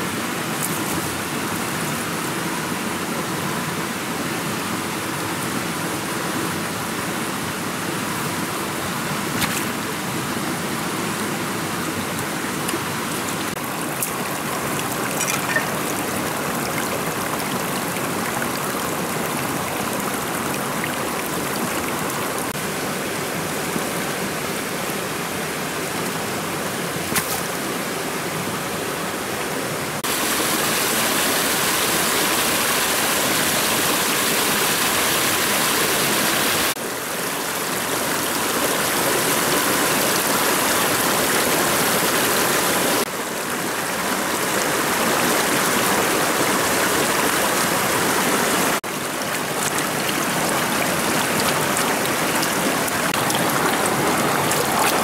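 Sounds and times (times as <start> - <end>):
rocky stream rushing: 0.0 - 55.0.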